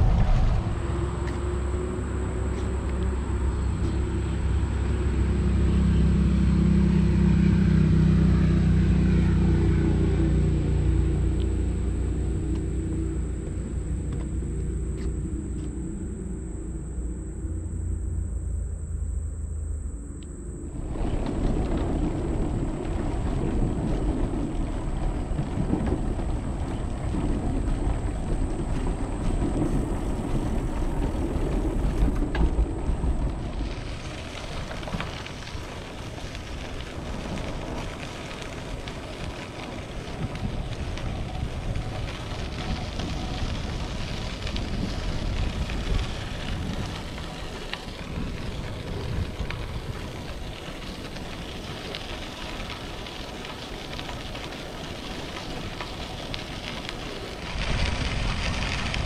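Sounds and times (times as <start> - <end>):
bike tyres crunching on gravel: 0.0 - 16.7, 20.7 - 59.0
bike tyres rumbling on boardwalk: 0.0 - 59.0.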